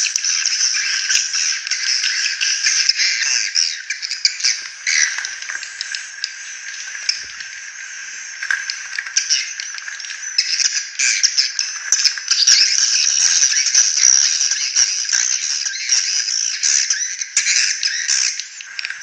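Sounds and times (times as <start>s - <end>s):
swiftlet calls twittering: 0.0s - 19.0s.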